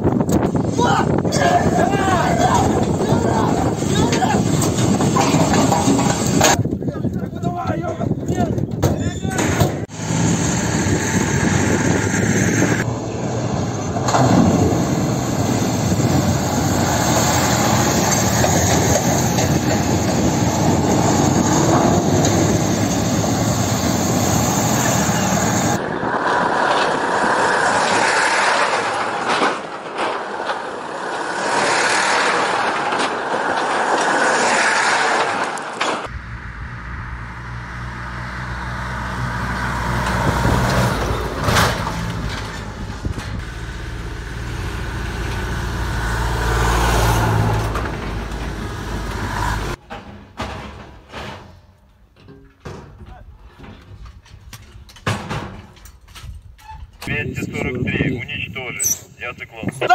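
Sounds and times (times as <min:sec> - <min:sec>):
wind noise: 0:00.0 - 0:49.8, 0:53.2 - 0:59.9
road noise: 0:00.0 - 0:52.2, 0:53.3 - 0:59.9
truck engines under load: 0:00.0 - 0:59.9.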